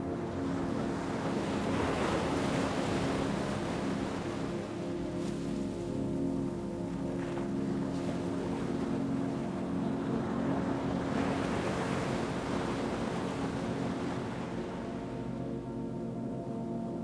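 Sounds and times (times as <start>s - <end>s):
low ambient drone: 0.0s - 17.0s.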